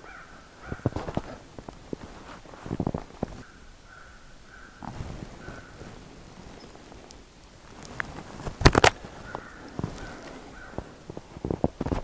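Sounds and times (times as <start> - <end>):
footsteps in snow: 0.6 - 3.5, 4.8 - 12.0.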